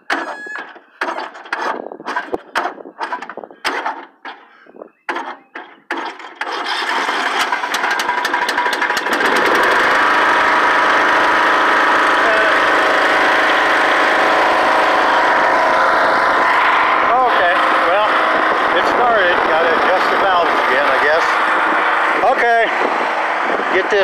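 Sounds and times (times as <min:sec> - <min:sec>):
riding mower engine running: 0:00.0 - 0:04.5, 0:05.2 - 0:24.0.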